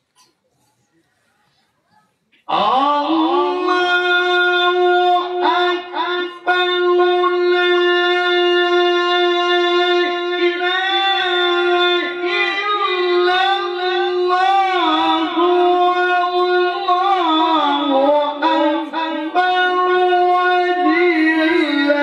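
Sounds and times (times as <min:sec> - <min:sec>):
man reciting melodic chant: 0:02.4 - 0:22.0.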